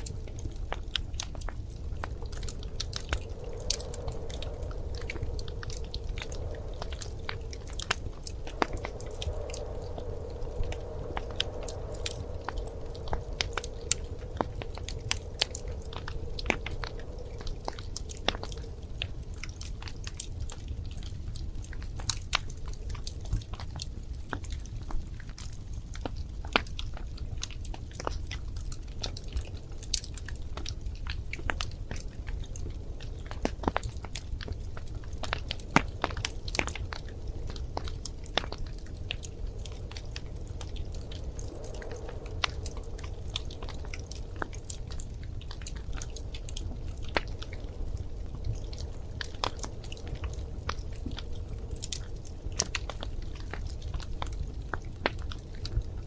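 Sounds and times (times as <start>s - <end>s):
low rumble of burning logs: 0.0s - 56.0s
wood fire crackling: 0.0s - 56.0s.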